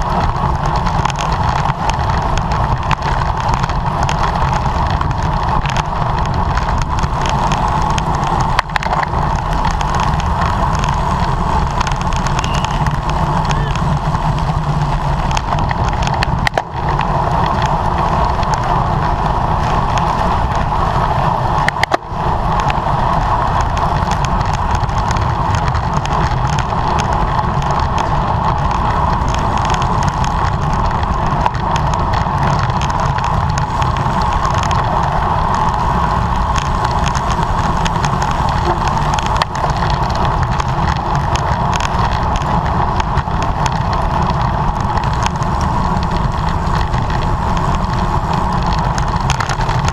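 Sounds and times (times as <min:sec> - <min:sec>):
bicycle tyre and drivetrain noise: 0:00.0 - 0:49.9
wind rushing over microphone: 0:00.0 - 0:49.9.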